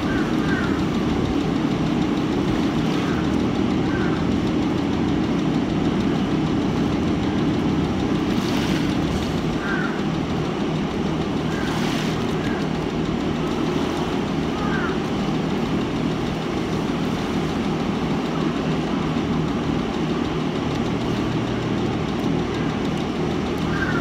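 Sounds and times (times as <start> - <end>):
low machinery drone: 0.0 - 24.0.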